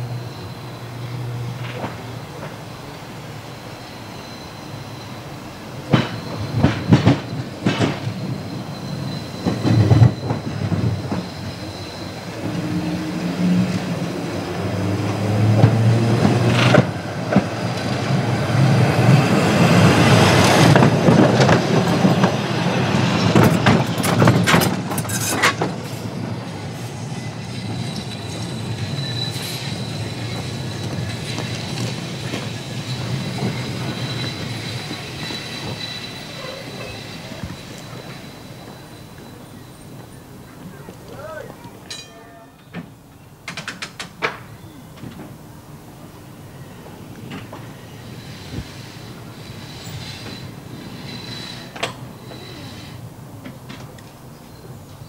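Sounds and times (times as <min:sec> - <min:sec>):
tram wheel squeal: 0:00.0 - 0:55.0
tram wheels clacking over rails: 0:00.1 - 0:55.0.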